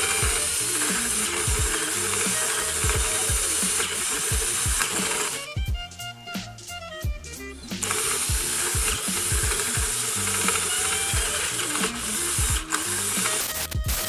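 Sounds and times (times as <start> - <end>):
drill boring into wood: 0.0 - 5.6, 7.6 - 14.0
background music with beat: 0.0 - 14.0.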